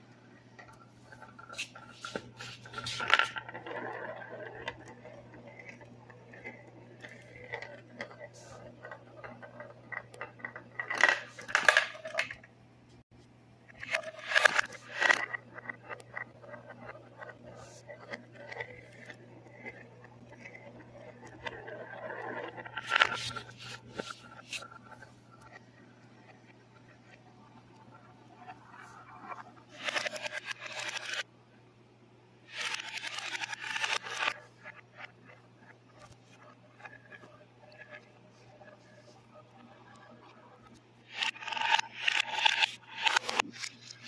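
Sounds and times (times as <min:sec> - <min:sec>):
marbles rolling on marble run: 0:00.6 - 0:12.5, 0:13.7 - 0:31.3, 0:32.5 - 0:44.0.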